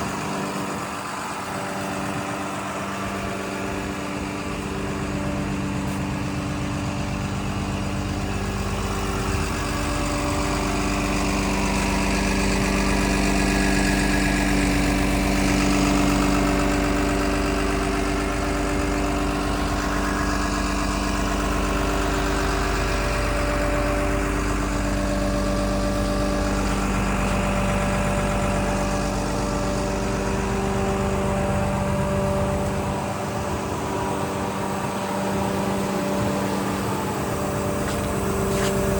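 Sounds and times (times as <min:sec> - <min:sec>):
bulldozer diesel engine idling: 0:00.0 - 0:38.9.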